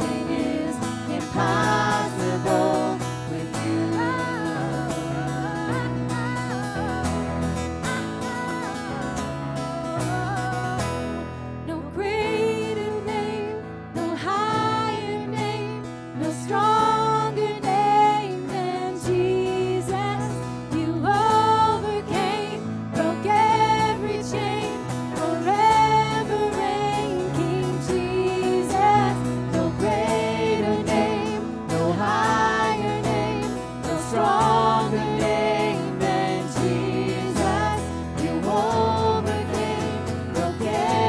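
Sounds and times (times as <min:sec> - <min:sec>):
acoustic guitar chords: 0:00.0 - 0:41.0
electric keyboard chords: 0:00.0 - 0:41.0
person singing melody: 0:00.0 - 0:41.0.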